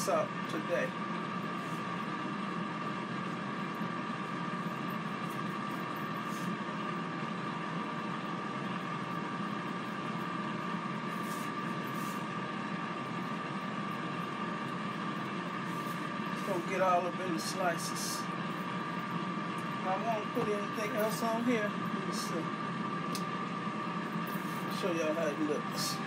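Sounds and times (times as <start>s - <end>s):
air fryer fan whirring: 0.0s - 26.0s.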